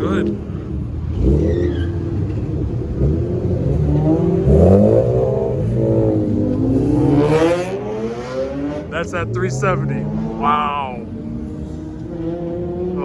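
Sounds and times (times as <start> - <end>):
car engine revving and accelerating: 0.0 - 13.0.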